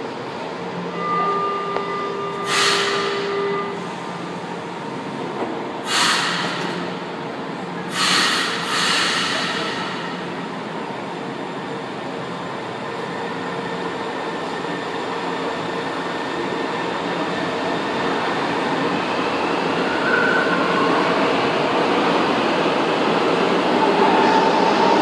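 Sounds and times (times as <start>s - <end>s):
metro train pulling out: 0.0s - 25.0s.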